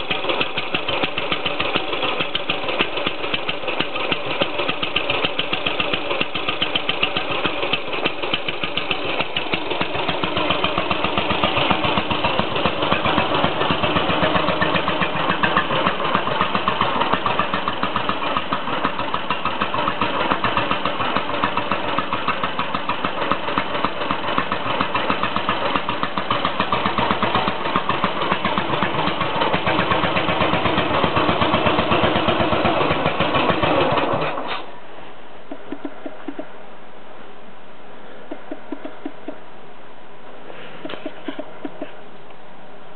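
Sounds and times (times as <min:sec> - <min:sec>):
motorcycle engine running: 0:00.0 - 0:34.5.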